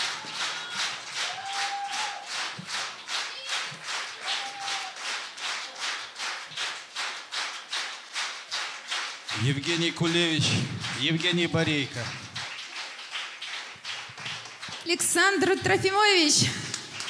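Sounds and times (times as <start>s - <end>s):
audience clapping in unison: 0.0s - 17.0s.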